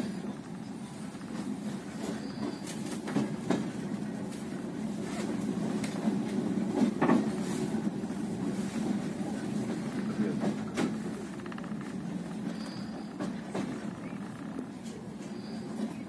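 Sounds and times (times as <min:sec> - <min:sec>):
train rumbling on track: 0:00.0 - 0:16.0
train wheel knocks: 0:01.3 - 0:07.4, 0:08.0 - 0:16.0.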